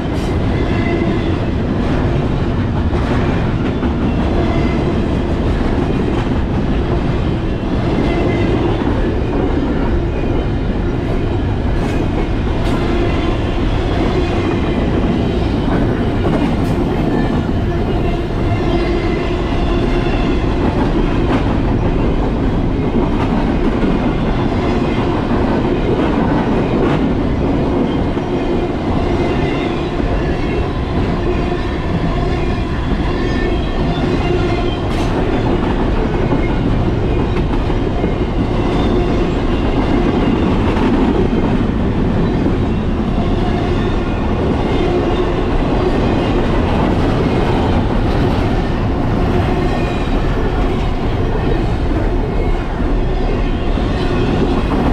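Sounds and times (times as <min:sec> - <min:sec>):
rushing wind: 0:00.0 - 0:54.9.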